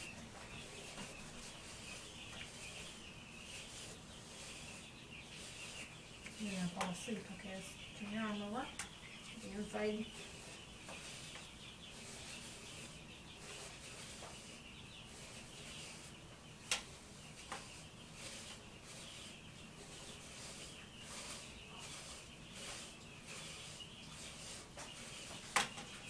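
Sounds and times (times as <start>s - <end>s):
brush rubbing on skin: 0.0s - 8.6s, 9.2s - 26.0s.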